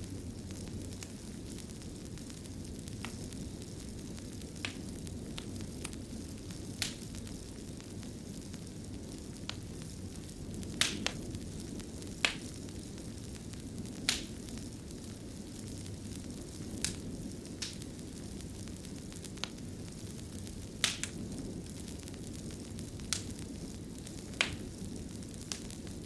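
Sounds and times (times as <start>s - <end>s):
fire crackling and popping: 0.0s - 26.0s
wood fire rumbling: 0.0s - 26.0s.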